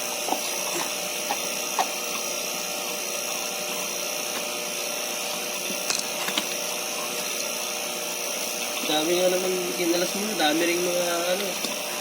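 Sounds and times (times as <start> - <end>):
vacuum pump droning: 0.0 - 12.0.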